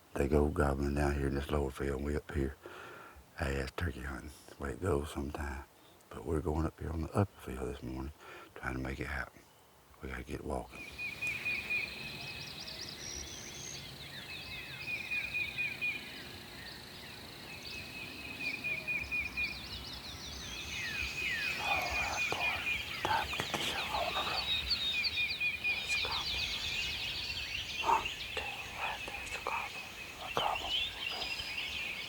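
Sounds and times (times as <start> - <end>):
songbirds trilling and chirping: 0.0 - 32.0.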